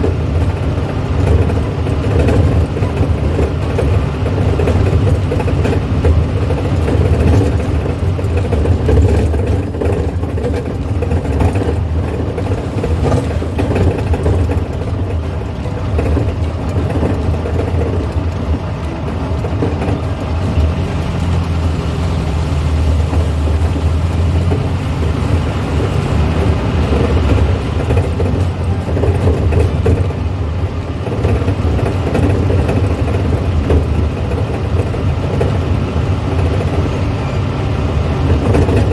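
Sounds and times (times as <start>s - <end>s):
car engine droning: 0.0s - 38.9s.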